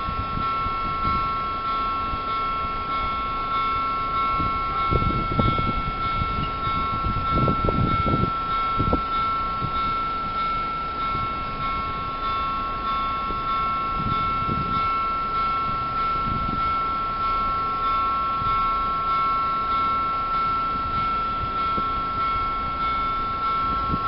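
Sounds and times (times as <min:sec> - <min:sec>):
level crossing warning bell: 0:00.0 - 0:24.0.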